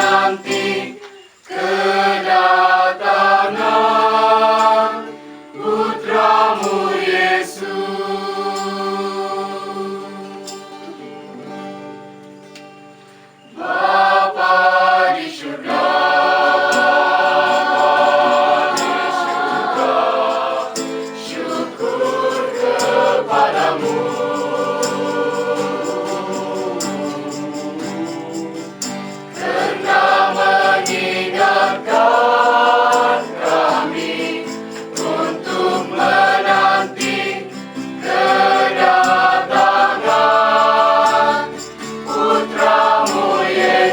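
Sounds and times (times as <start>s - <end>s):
choir singing in harmony: 0.0s - 11.8s, 13.4s - 43.9s.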